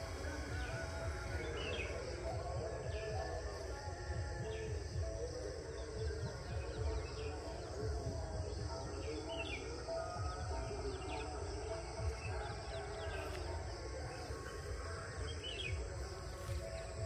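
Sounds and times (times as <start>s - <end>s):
insect hiss: 0.0s - 17.0s
small birds chirping: 0.0s - 17.0s.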